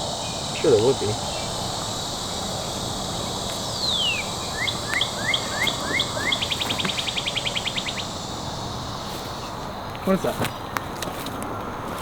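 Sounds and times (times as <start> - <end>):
insect drone: 0.0 - 12.0
songbird singing: 0.0 - 12.0.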